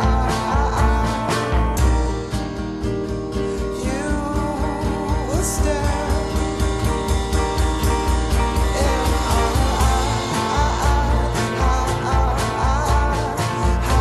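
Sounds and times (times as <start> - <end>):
rock song with singing: 0.0 - 14.0.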